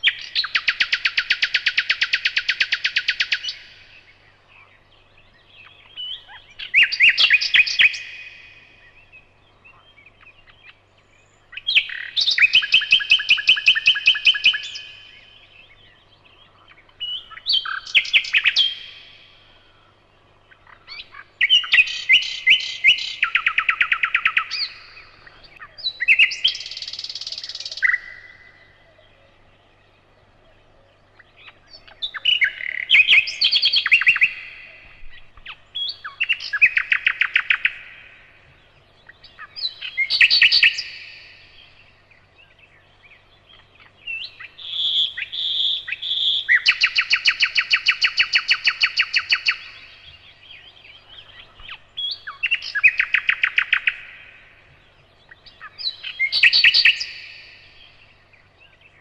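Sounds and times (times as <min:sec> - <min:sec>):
nightingale singing trills: 0:00.0 - 0:59.0.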